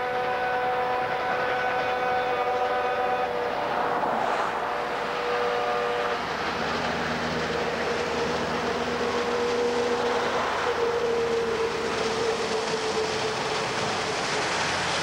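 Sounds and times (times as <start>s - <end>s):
steam engine rushing: 0.0s - 15.0s
steam locomotive whistle: 0.0s - 15.0s.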